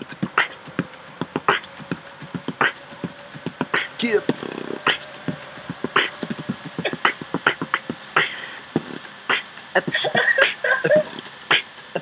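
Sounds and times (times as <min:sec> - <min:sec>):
beatboxing drum sounds: 0:00.0 - 0:12.0
vocal scratch imitations: 0:00.0 - 0:12.0.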